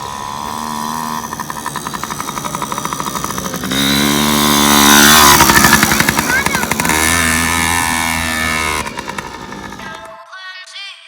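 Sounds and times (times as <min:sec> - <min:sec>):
two-stroke dirt bike engine: 0:00.0 - 0:10.2.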